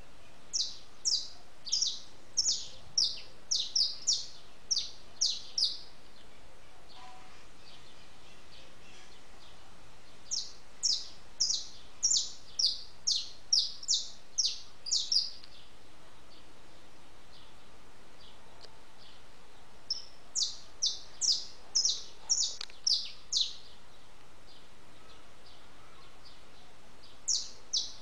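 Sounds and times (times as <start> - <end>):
background hiss: 0.0 - 28.0
small bird chirping: 0.4 - 6.3, 6.9 - 18.4, 19.9 - 28.0.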